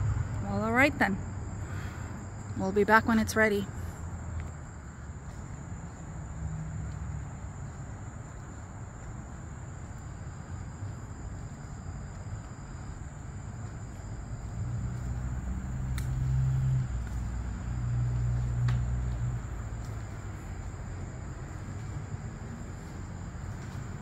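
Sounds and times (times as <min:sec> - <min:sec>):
insects droning: 0:00.0 - 0:24.0
low outdoor rumble: 0:00.0 - 0:24.0.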